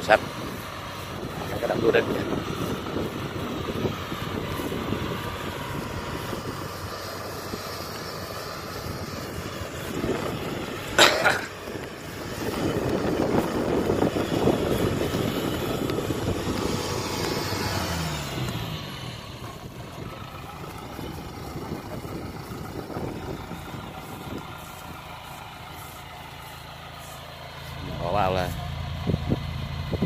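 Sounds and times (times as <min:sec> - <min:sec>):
combine harvester droning: 0:00.0 - 0:30.0.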